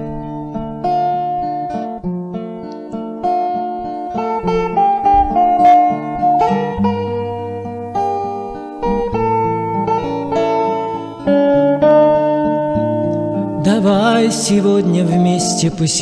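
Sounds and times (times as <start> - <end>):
acoustic guitar playing: 0.0 - 16.0.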